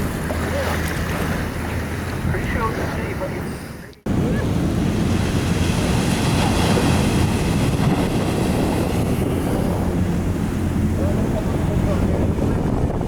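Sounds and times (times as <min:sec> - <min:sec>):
boat motor droning: 0:00.0 - 0:13.0
ocean surf: 0:00.0 - 0:13.0
wind rumble on microphone: 0:00.0 - 0:13.0.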